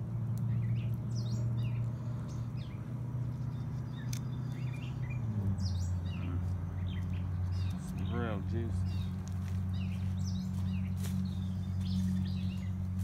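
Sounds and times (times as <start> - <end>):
low engine hum: 0.0 - 13.0
small birds chirping: 0.0 - 13.0.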